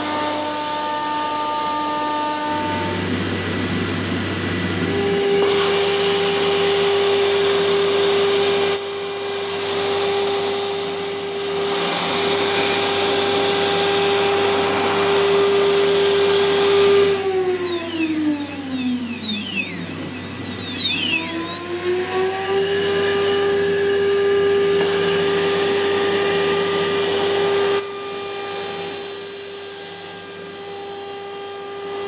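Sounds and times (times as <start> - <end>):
high whine: 2.0 - 32.0
router cutting metal hiss: 4.8 - 32.0.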